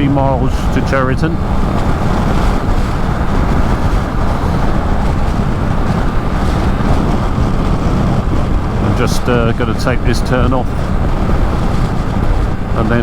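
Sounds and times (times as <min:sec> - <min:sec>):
motorcycle engine: 0:00.0 - 0:13.0
rushing wind: 0:00.0 - 0:13.0.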